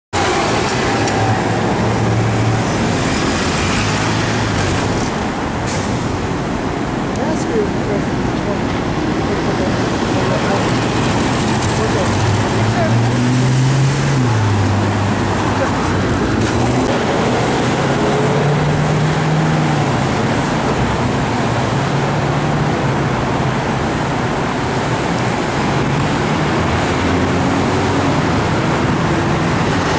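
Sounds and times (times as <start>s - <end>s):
city street traffic: 0.1s - 29.9s
large engine humming: 0.2s - 29.9s.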